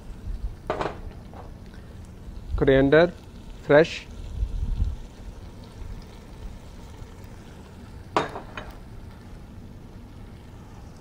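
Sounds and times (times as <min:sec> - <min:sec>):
gravy simmering in a pot: 0:00.0 - 0:11.0.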